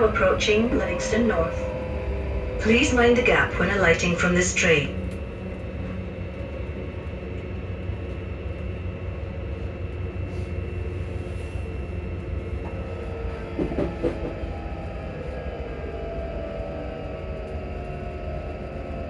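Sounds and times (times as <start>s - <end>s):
traction equipment whine: 0.0s - 19.0s
train interior low rumble: 0.0s - 19.0s.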